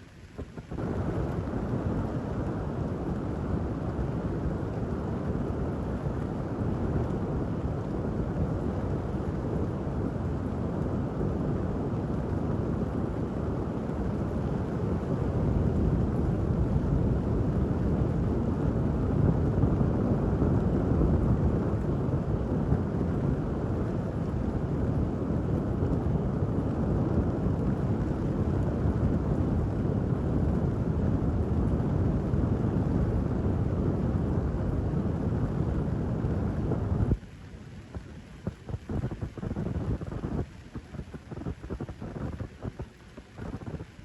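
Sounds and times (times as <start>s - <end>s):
rainy city rumble: 0.0s - 44.0s.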